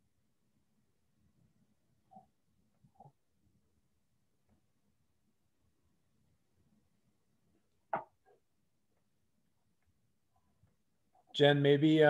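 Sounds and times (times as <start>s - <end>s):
faint soft sounds: 0.0s - 11.4s.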